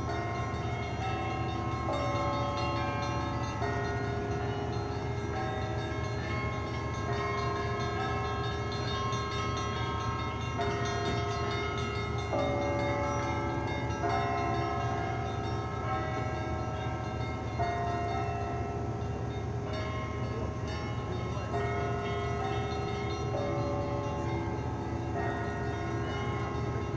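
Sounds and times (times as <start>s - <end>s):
large church bells ringing: 0.0s - 26.9s
small bells striking: 0.0s - 26.9s.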